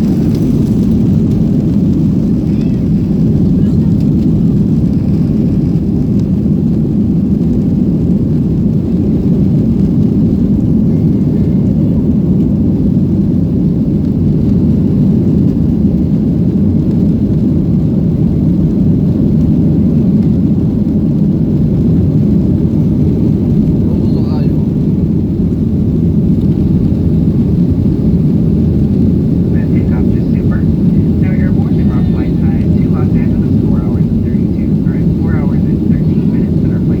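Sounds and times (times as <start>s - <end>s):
jet engine rumble in cabin: 0.0s - 37.0s.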